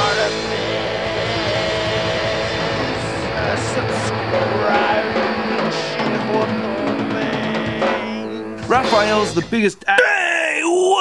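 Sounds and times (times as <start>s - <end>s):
rock music: 0.0s - 10.3s.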